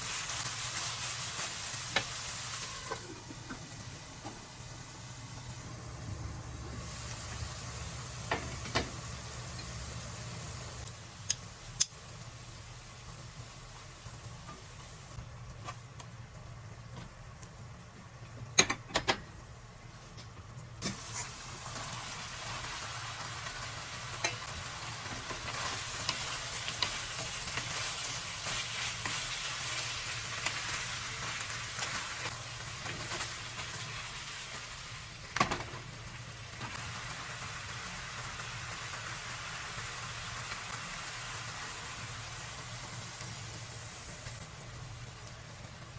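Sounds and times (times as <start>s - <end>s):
food sizzling in a frying pan: 0.0s - 17.6s, 20.8s - 45.9s.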